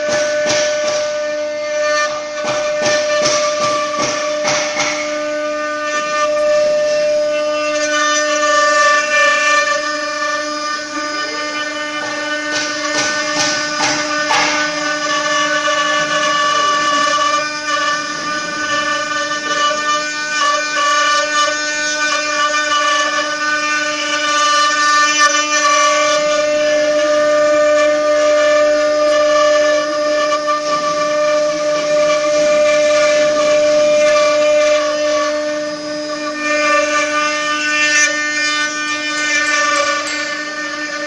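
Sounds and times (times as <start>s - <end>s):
bits cutting wood: 0.0s - 41.0s
router spindles whining: 0.0s - 41.0s.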